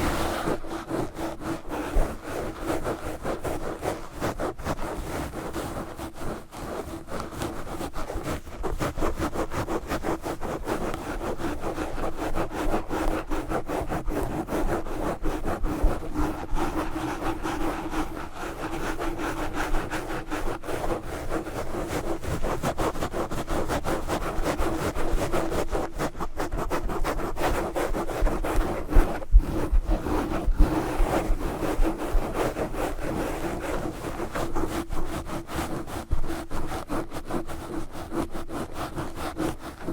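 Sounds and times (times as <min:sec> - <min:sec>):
gloves scratching on microphone: 0:00.0 - 0:39.9.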